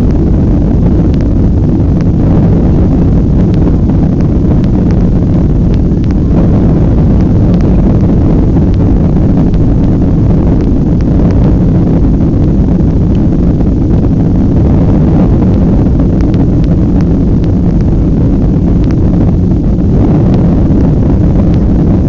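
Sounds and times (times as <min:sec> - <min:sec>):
jet engines deep rumble: 0:00.0 - 0:22.0.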